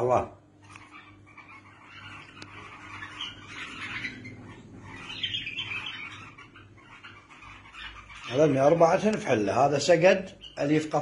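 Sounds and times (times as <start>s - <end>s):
bulbuls calling harshly: 0.9s - 11.0s.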